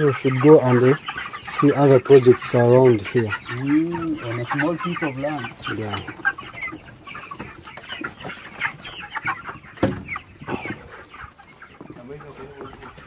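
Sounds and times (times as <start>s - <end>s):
chickens clucking and cheeping: 0.0s - 13.0s.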